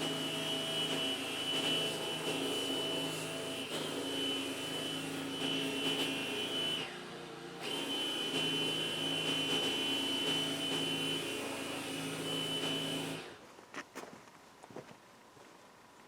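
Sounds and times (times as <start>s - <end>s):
electric motor whining: 0.0s - 13.4s.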